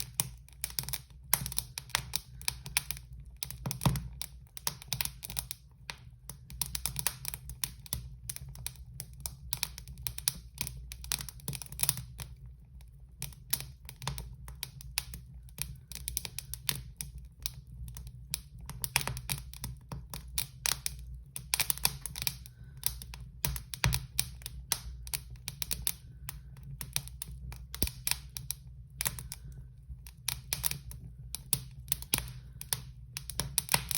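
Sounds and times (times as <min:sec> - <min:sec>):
low steady rumble: 0:00.0 - 0:10.2, 0:10.8 - 0:33.9
fire crackling and popping: 0:00.0 - 0:33.9.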